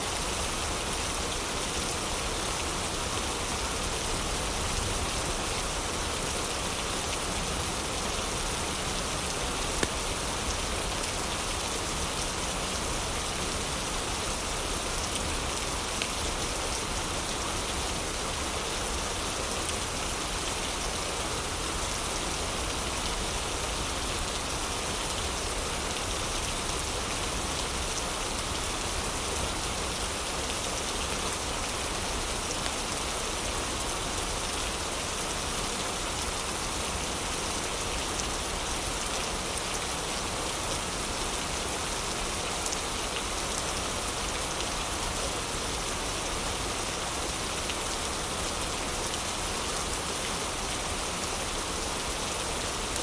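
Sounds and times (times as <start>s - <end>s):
heavy rain falling: 0.1s - 53.0s.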